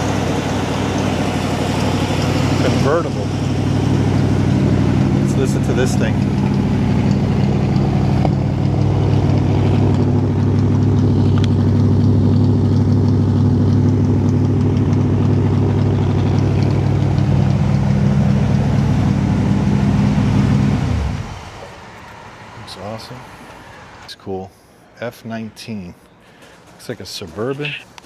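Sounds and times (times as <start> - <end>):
car engine idling and winding down: 0.0 - 24.1.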